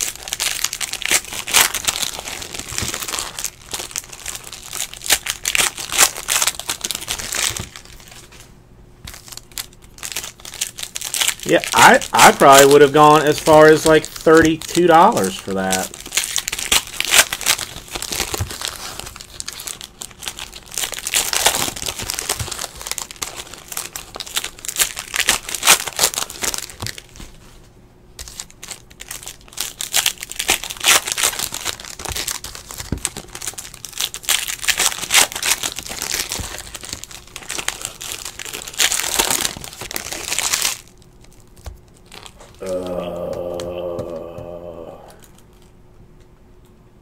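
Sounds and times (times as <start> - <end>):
foil wrappers crinkling and tearing: 0.0 - 8.5, 9.1 - 27.6, 28.2 - 45.8.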